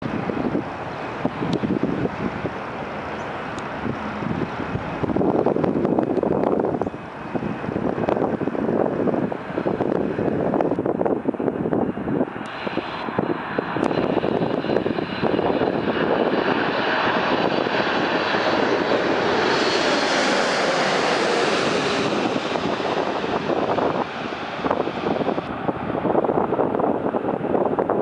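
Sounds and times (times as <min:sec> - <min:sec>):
high jet whine: 0:00.0 - 0:28.0
jet engine noise: 0:00.0 - 0:28.0.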